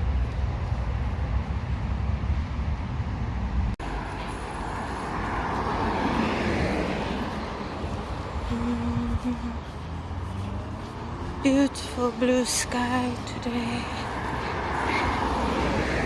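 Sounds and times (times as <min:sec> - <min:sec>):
road traffic rumble: 0:00.0 - 0:16.0
vehicle passing: 0:00.0 - 0:16.0.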